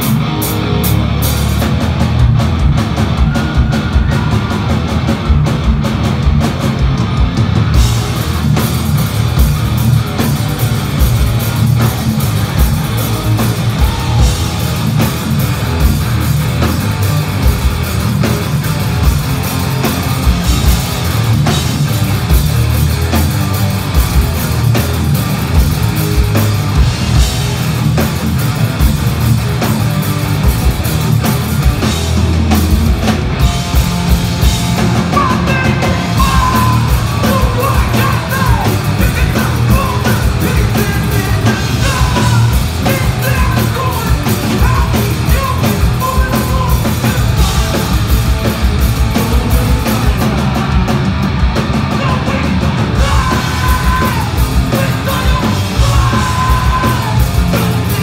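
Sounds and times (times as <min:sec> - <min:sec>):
punk rock band playing: 0:00.0 - 0:58.0.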